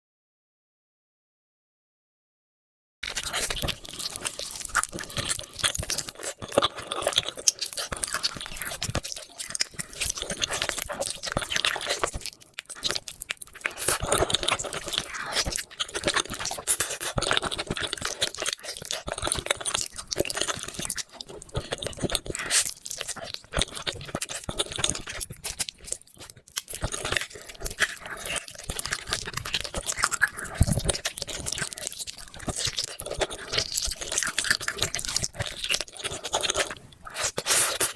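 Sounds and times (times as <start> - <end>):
chewing and crunching: 3.0 - 37.9
mouth crackles and smacks: 3.0 - 37.9.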